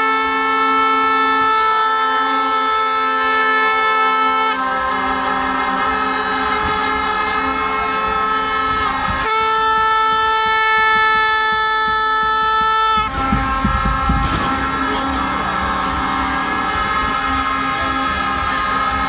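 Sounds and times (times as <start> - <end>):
horns blowing together: 0.0 - 19.0.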